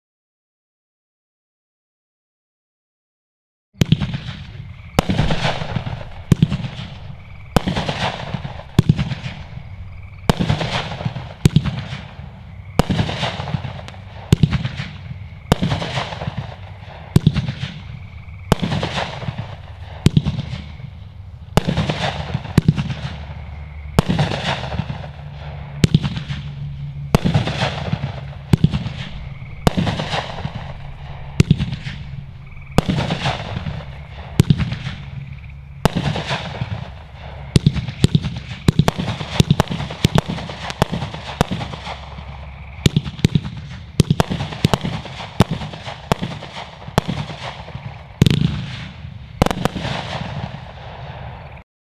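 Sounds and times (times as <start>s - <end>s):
firework cake bangs: 3.8s - 20.9s, 21.5s - 51.2s.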